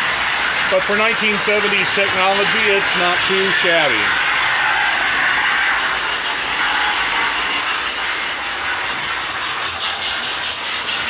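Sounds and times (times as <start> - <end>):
hissing steam chuff from speaker: 0.0 - 11.0
toy train rumbling on track: 0.0 - 11.0.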